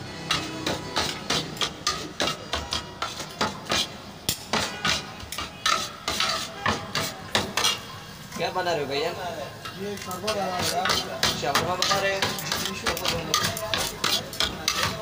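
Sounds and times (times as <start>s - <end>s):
metal tongs clacking on steel tray: 0.2s - 7.8s, 9.6s - 15.0s.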